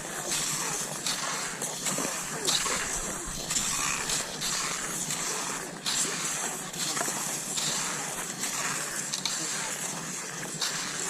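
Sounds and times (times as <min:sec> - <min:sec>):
skis swishing over snow: 0:00.0 - 0:11.0.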